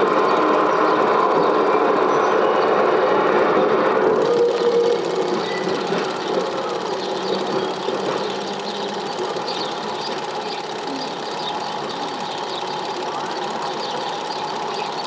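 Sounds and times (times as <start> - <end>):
rapid mechanical clatter: 0.0 - 15.0.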